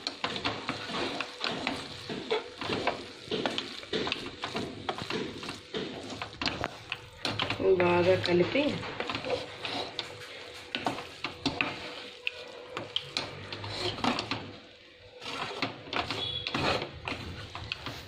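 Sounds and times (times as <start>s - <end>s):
spatula scraping a pan: 0.0s - 18.0s.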